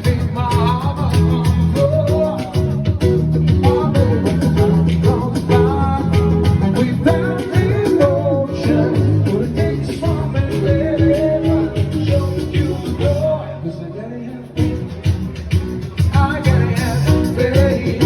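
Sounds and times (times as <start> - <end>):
upbeat rhythm: 0.0 - 13.4, 14.4 - 18.0
person singing: 0.0 - 15.0, 16.0 - 18.0
guitar accompaniment: 0.0 - 18.0.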